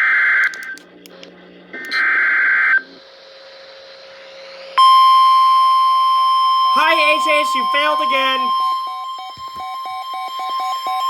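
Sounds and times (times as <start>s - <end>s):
buzzy two-tone data squeal: 1.9s - 11.0s.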